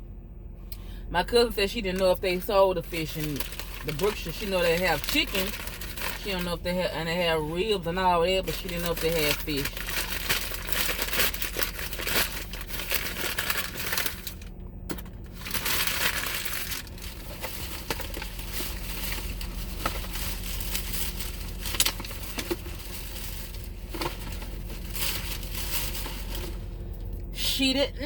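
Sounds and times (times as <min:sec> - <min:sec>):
crinkling and crunching: 0:01.8 - 0:06.6, 0:07.6 - 0:27.3.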